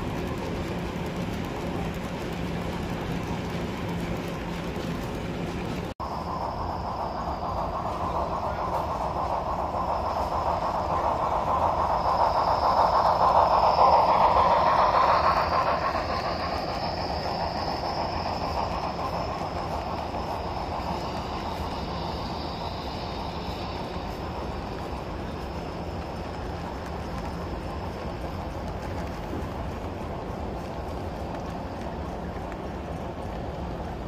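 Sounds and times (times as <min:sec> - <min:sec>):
model train wheels on rails: 0:00.0 - 0:34.0
faint high whine: 0:03.8 - 0:34.0.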